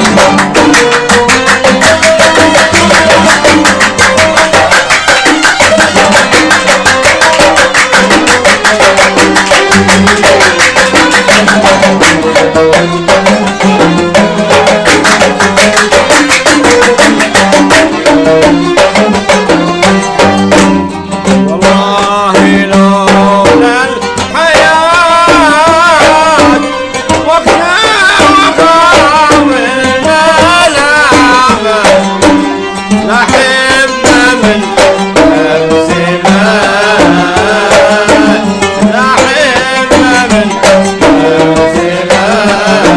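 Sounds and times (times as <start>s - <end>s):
fast hand-drum beat: 0.0s - 42.9s
violins and qanun melody: 0.0s - 42.9s.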